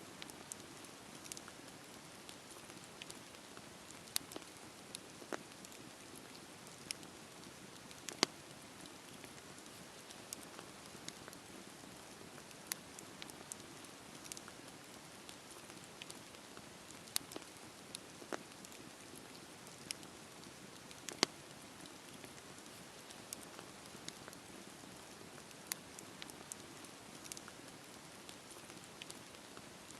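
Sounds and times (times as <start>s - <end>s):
campfire crackling and hissing: 0.0s - 29.9s.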